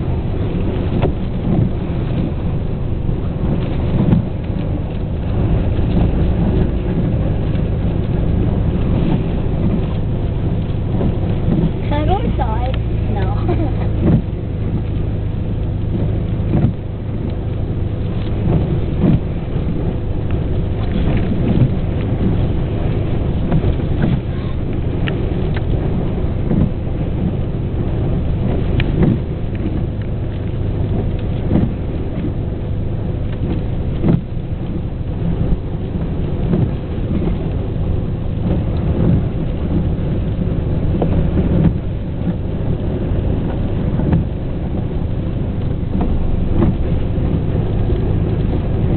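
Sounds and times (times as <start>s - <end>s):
storm wind buffeting microphone: 0.0s - 48.9s.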